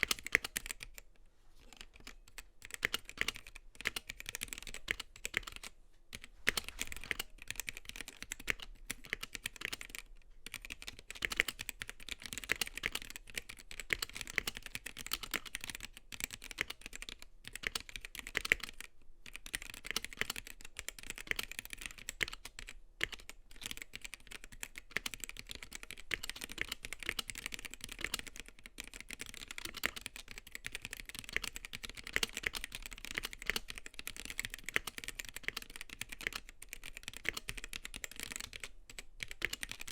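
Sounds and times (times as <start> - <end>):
mechanical keyboard typing: 0.0 - 1.0, 1.6 - 39.9.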